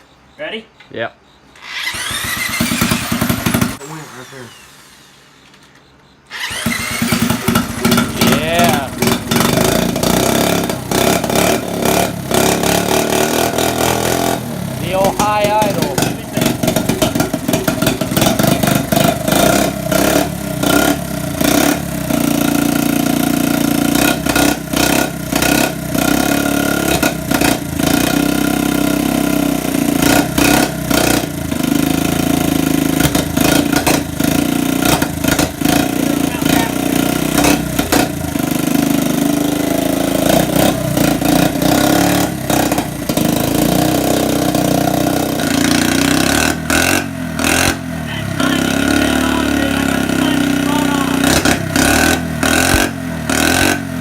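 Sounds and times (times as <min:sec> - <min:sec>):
small engine running at high idle: 0:01.6 - 0:54.0.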